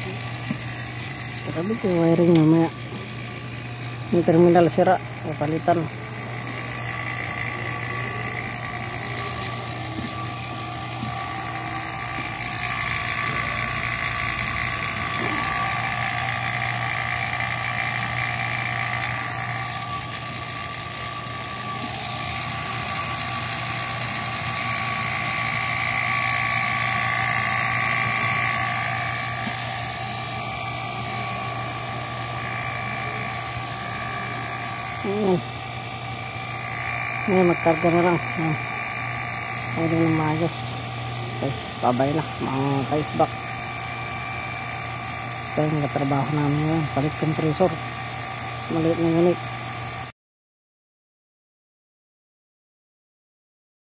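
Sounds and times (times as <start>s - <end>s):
air conditioner hum and whine: 0.0s - 50.0s.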